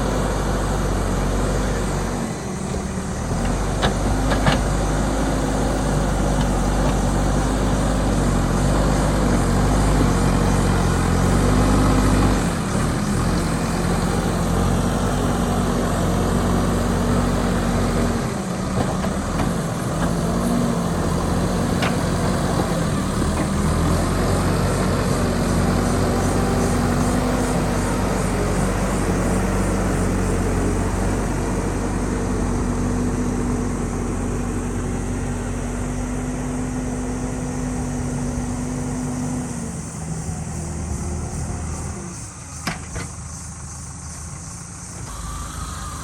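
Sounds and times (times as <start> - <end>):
backhoe diesel engine running: 0.0 - 46.0.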